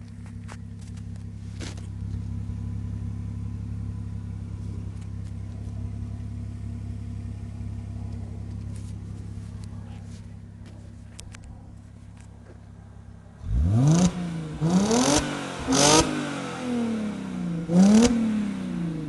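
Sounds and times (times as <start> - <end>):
unsilenced car engine idling: 0.0 - 19.0.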